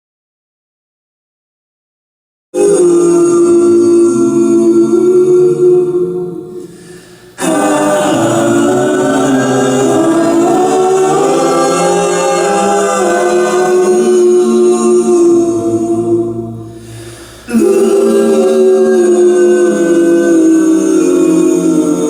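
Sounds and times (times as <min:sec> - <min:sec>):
a cappella group singing: 0:02.6 - 0:22.0.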